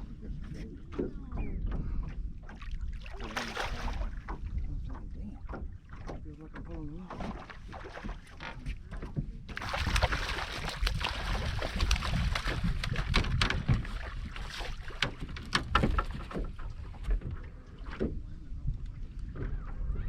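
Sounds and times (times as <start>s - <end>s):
water sloshing against boat: 0.0s - 20.0s.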